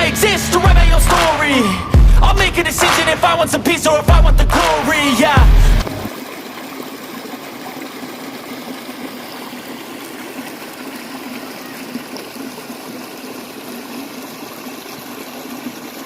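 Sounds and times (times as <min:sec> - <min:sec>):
stream water running: 0:00.8 - 0:16.0.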